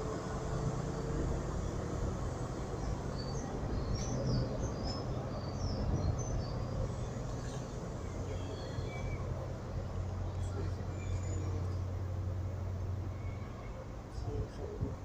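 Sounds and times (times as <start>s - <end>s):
diesel train low rumble: 0.0s - 15.0s.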